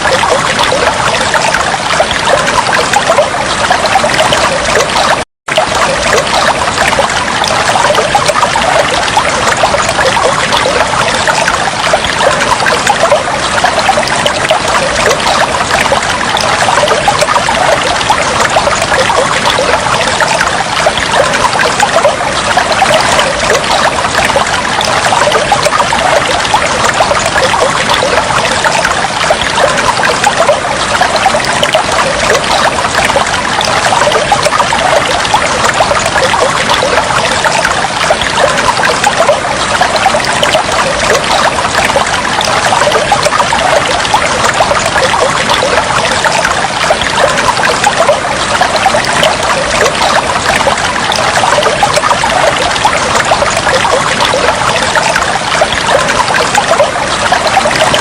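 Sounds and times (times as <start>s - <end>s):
trickling water: 0.0s - 58.0s.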